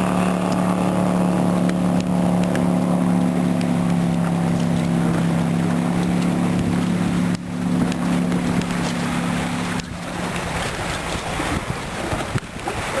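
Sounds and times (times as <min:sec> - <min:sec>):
boat engine running: 0:00.0 - 0:13.0
water rushing: 0:00.0 - 0:13.0.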